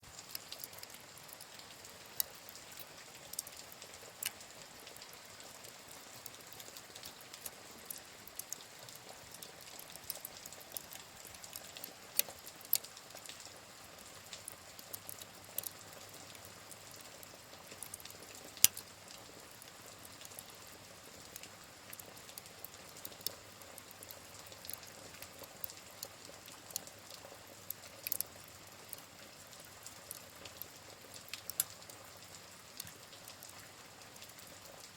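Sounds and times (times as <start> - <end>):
steady rain: 0.0 - 34.9
wood fire crackling: 0.0 - 34.9.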